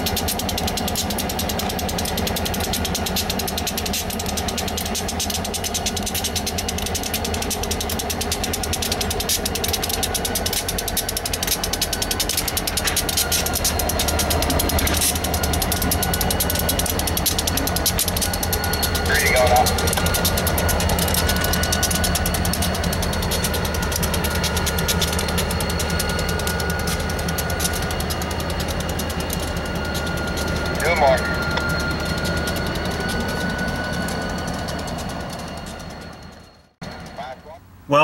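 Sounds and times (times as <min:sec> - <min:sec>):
train wheels clicking and rattling: 0:00.0 - 0:37.6
diesel locomotive drone: 0:00.0 - 0:38.0.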